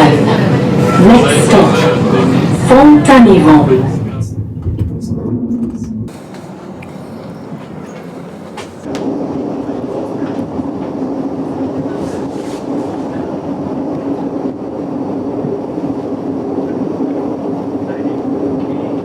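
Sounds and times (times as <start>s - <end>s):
train rumble inside carriage: 0.0s - 19.0s.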